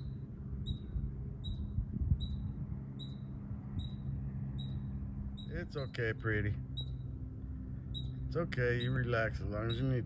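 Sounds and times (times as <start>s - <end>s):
high-pitched chirping call: 0.0s - 6.0s, 6.7s - 7.2s, 7.9s - 10.0s
steady low hum: 0.0s - 10.0s.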